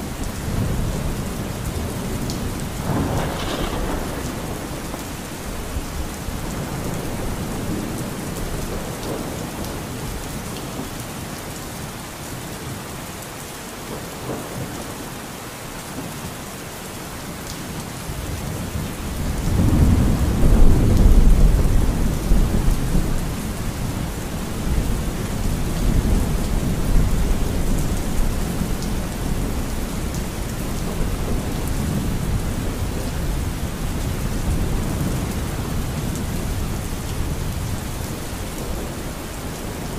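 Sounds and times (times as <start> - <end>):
rain-like noise: 0.0 - 39.9.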